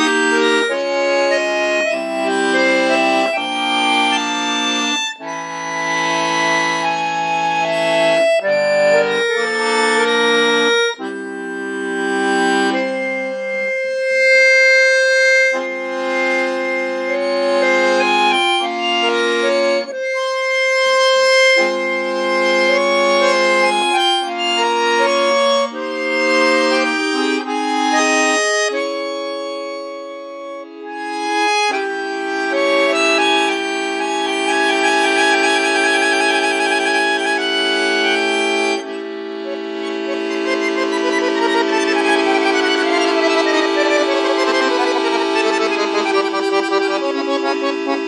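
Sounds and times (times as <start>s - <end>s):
solo accordion: 0.0s - 48.0s.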